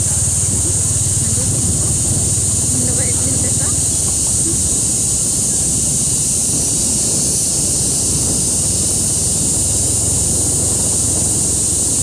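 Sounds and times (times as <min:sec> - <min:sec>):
high-pitched hiss: 0:00.0 - 0:12.0
wind buffeting microphone: 0:00.0 - 0:12.0.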